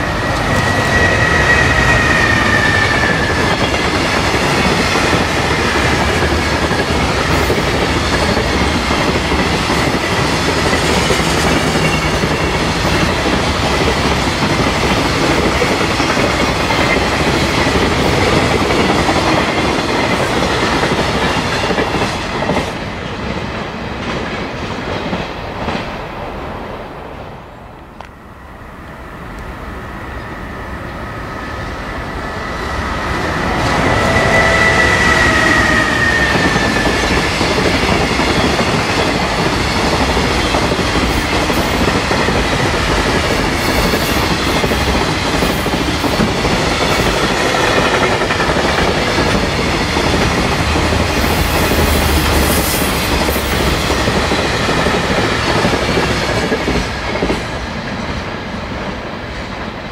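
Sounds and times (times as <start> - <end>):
approaching train whine: 0.0 - 59.9
freight train rumbling past: 0.0 - 59.9.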